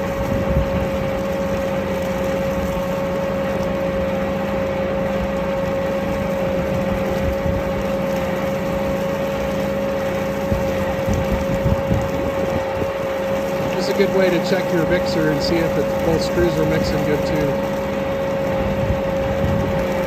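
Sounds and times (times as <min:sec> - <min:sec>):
machinery drone and whine: 0:00.0 - 0:20.0.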